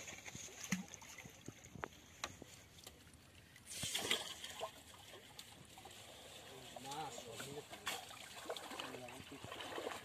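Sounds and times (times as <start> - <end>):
water splashing: 0.0 - 10.0.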